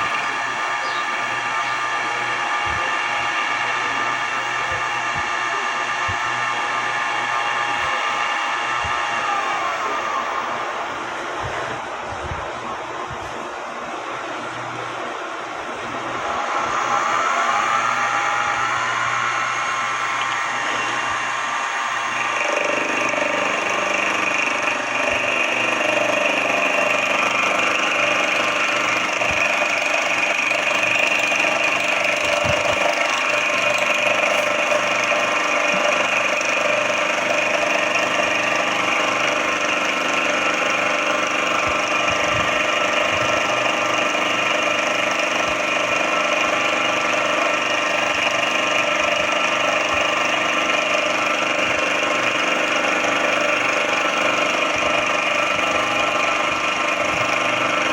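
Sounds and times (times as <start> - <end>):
mill-drill motor whine: 0.0 - 57.9.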